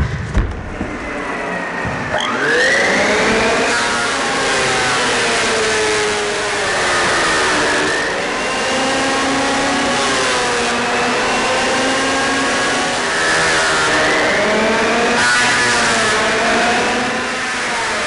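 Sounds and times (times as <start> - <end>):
electric hand planer whining: 1.2 - 18.0.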